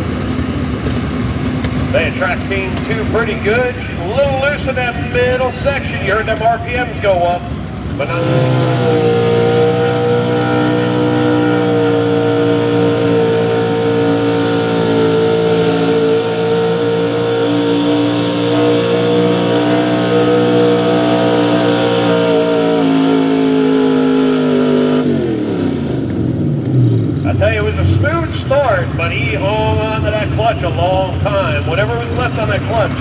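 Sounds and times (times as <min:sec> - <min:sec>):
truck engine at high revs: 0:00.0 - 0:33.0.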